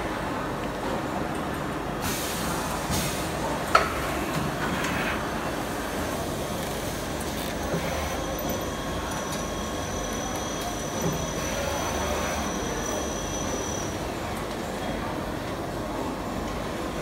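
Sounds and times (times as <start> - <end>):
printing machine hum and hiss: 0.0 - 17.0.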